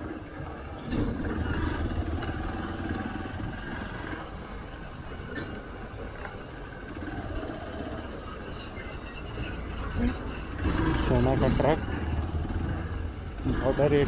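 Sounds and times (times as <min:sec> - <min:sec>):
bus passing close alongside: 0:00.0 - 0:14.0
vehicle engine and road noise: 0:00.0 - 0:14.0.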